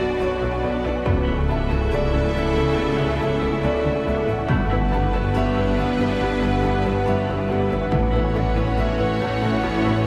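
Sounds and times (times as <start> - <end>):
instrumental music with sustained notes: 0.0 - 10.0.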